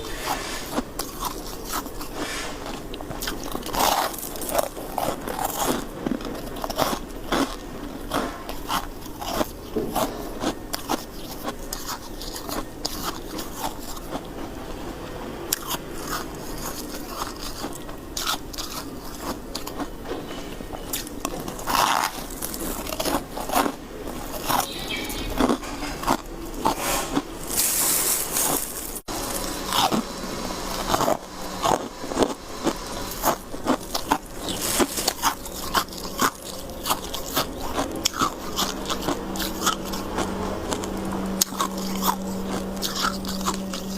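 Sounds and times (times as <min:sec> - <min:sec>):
person chewing ice: 0:00.0 - 0:43.9.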